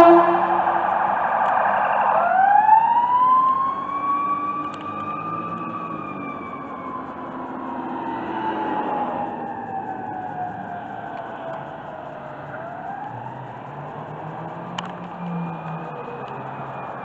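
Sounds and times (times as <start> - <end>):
ambulance siren wailing: 0.0 - 17.0.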